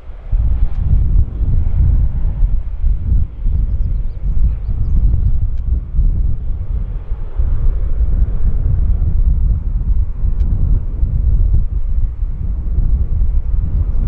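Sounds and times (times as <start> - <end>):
jet airliner noise: 0.0 - 14.0
wind buffeting microphone: 0.0 - 14.0.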